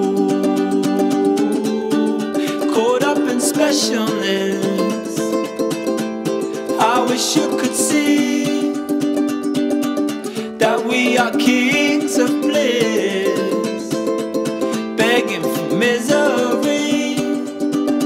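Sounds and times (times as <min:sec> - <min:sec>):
person singing: 0:00.0 - 0:18.0
strummed string instrument: 0:00.0 - 0:18.0.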